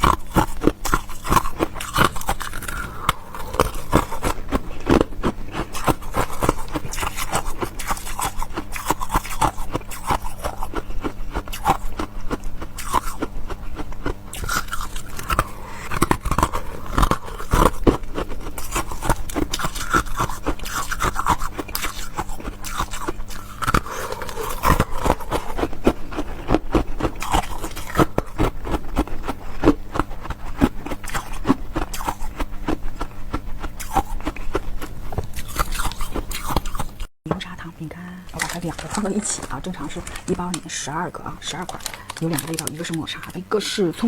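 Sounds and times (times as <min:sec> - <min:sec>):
chewing crisp food: 0:00.0 - 0:37.1, 0:38.2 - 0:44.0.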